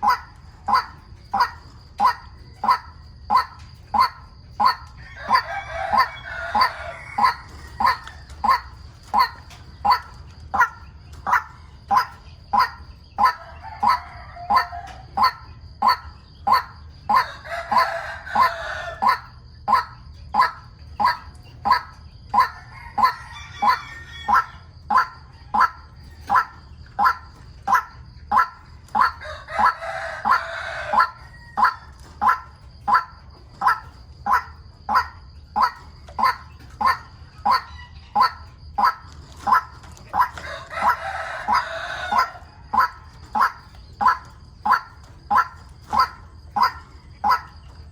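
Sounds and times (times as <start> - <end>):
waterhen calling: 0.0 - 47.9.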